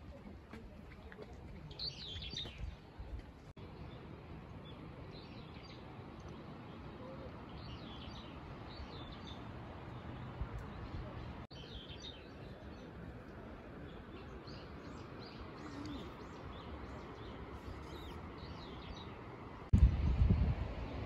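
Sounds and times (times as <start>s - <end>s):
songbirds chirping: 0.0s - 19.7s.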